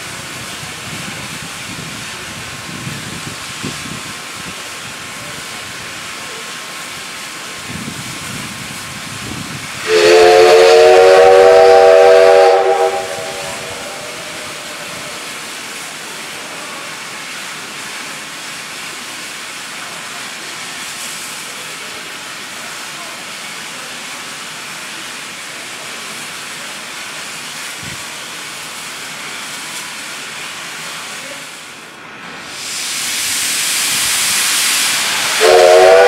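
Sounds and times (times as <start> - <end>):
steam locomotive venting steam: 0.0 - 36.0.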